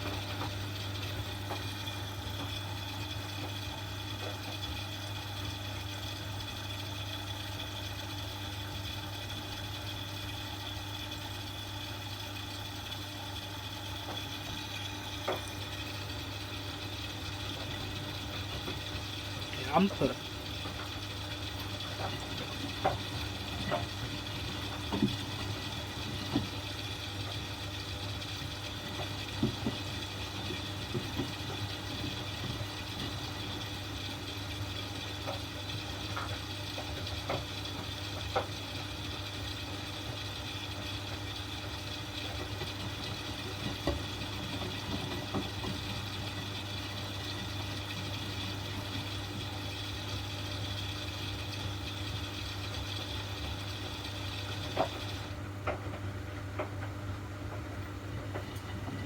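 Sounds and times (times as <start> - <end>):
washing machine motor hum: 0.0 - 59.0.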